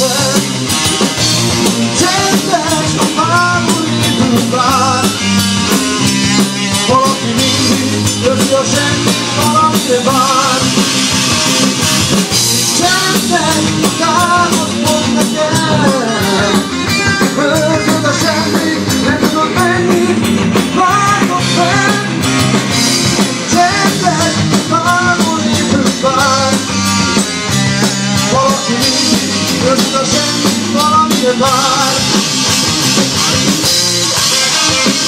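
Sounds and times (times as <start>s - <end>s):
person singing: 0.0s - 5.4s, 6.7s - 11.1s, 12.5s - 27.1s, 27.8s - 32.4s
drum kit: 0.0s - 35.0s
electric guitars: 0.0s - 35.0s.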